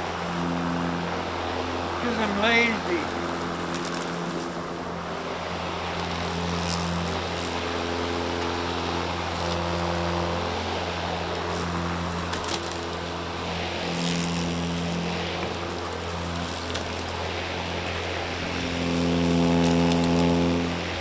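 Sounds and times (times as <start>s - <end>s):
lawn mower running: 0.0s - 21.0s.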